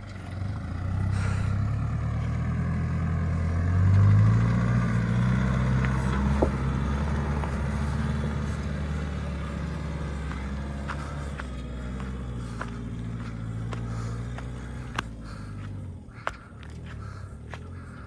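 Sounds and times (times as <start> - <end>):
off-road vehicle engine: 0.0 - 18.0.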